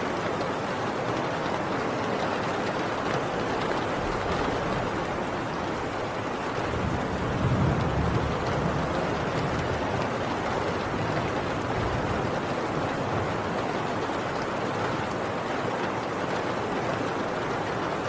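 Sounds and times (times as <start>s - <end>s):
heavy rain on a tin roof: 0.0s - 18.0s.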